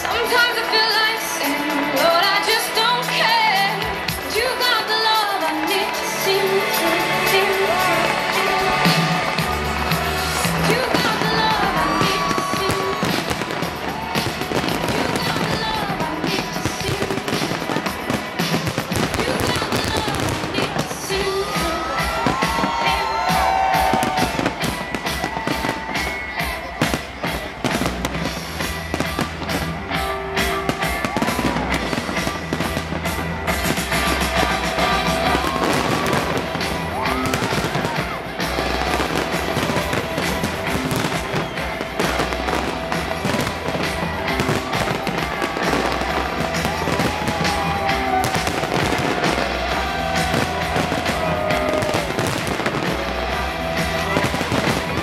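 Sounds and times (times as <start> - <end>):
fireworks bursting and crackling: 0.0 - 55.0
music with bass beat: 7.0 - 55.0.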